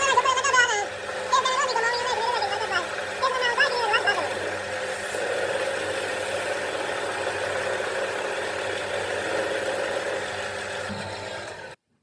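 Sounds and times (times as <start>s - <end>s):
motor running steadily: 0.0s - 11.8s.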